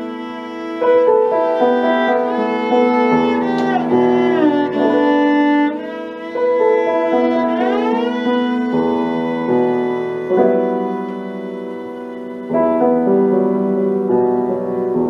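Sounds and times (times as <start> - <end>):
bowed cello notes: 0.0 - 15.0
piano: 0.0 - 15.0.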